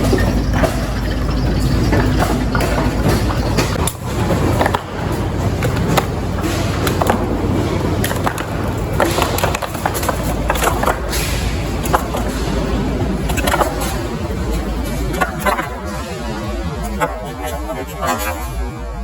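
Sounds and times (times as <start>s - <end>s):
fish clattering and knocking: 0.0s - 15.9s
machinery rumble: 0.0s - 19.0s.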